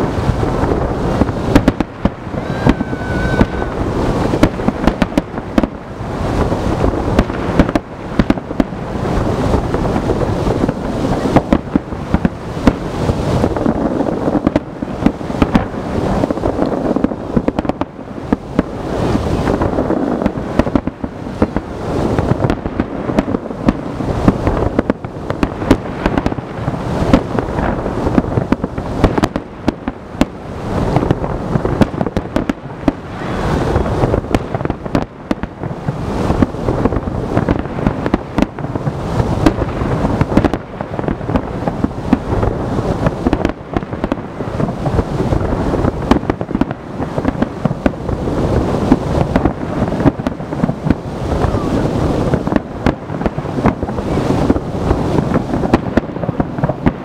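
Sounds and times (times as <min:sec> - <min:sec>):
fireworks barrage: 0:00.0 - 0:57.0.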